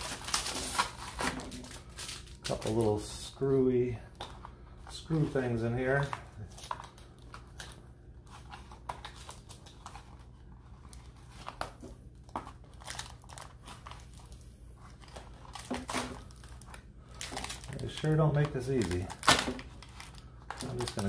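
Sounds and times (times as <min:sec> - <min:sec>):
hands handling cardboard packaging: 0:00.0 - 0:21.0.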